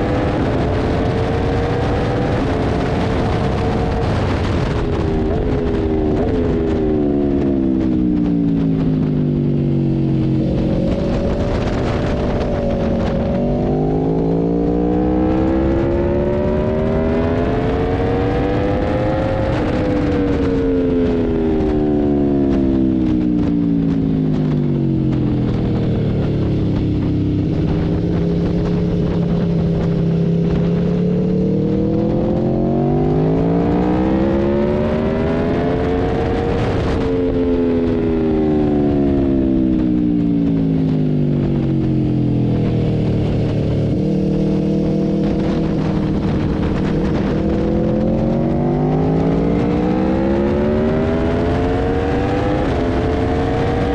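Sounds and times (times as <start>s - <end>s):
motorcycle engine accelerating: 0.0s - 53.9s
wind noise: 0.0s - 53.9s.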